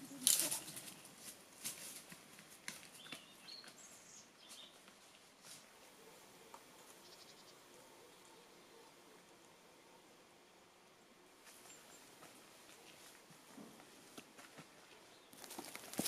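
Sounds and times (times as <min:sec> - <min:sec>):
small birds chirping: 0:00.0 - 0:01.5, 0:02.5 - 0:16.0.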